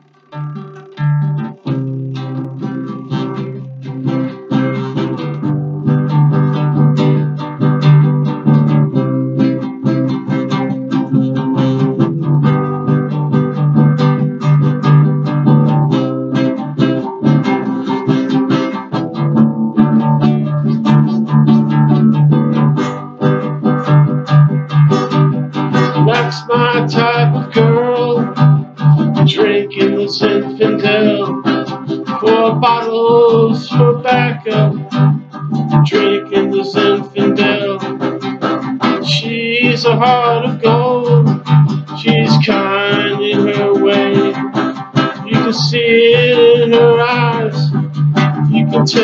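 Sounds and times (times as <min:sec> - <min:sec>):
acoustic guitar chords: 0:00.0 - 0:49.0.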